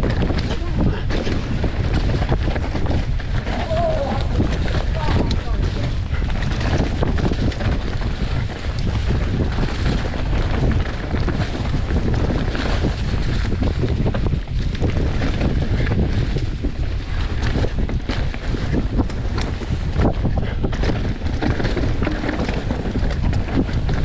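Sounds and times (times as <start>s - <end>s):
bike knocks and rattles: 0.0s - 24.0s
bike tyres rumbling on dirt: 0.0s - 24.0s
wind buffeting microphone: 0.0s - 24.0s.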